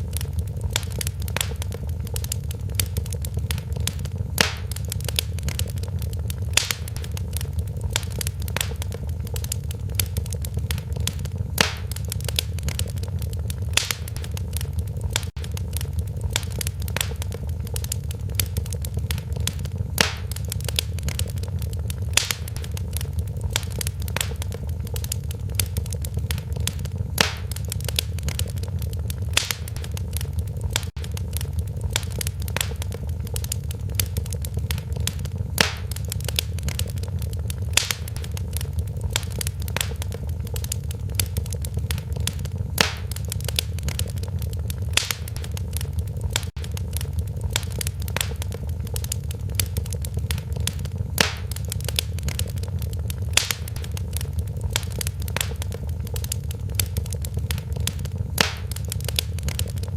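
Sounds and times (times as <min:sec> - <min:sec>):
sharp pops of fire: 0:00.0 - 0:59.9
steady low rumble: 0:00.0 - 0:59.9
wood fire crackling: 0:00.0 - 0:59.9.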